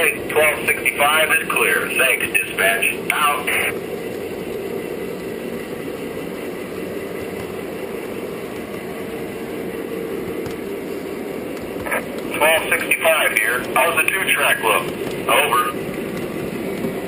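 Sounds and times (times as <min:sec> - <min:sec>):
model train rolling rumble: 0:00.0 - 0:17.0.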